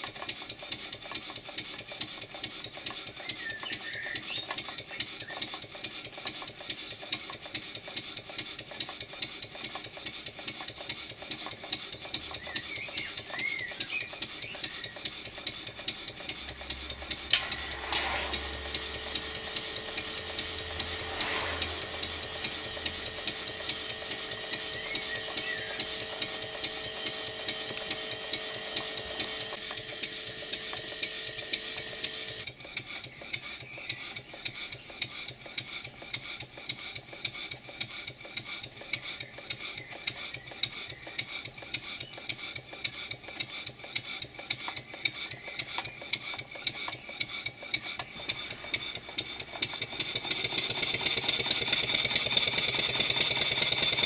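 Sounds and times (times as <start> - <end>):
model steam engine exhaust beats: 0.0 - 54.0.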